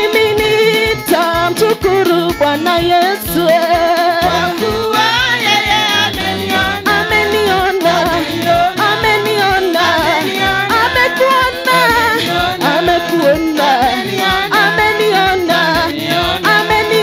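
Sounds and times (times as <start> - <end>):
electronic keyboard bass line: 0.0 - 17.0
women singing gospel with vibrato: 0.0 - 17.0.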